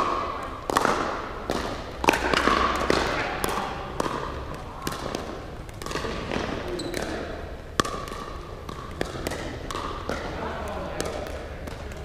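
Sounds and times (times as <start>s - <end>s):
paddles striking plastic ball: 0.0s - 12.0s.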